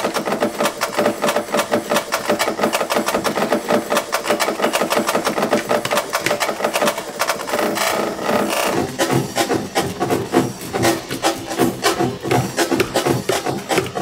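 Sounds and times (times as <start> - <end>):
stuttering chopped drum hits: 0.0 - 14.0.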